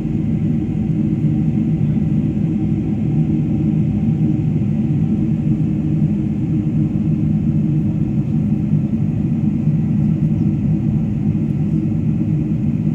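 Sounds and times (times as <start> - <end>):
jet engine and airflow rumble: 0.0 - 12.9.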